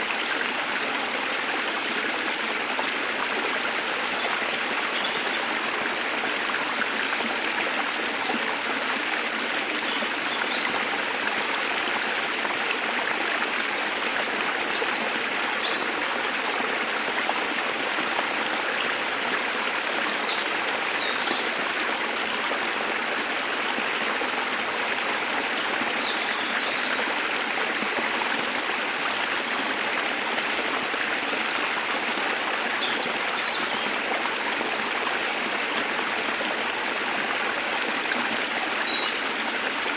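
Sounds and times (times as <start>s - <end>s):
water running over rocks: 0.0s - 39.9s.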